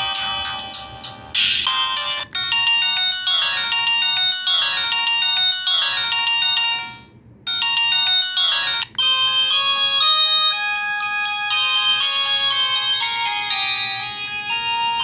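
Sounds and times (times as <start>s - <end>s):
electronic phone ringtones: 0.0s - 15.0s.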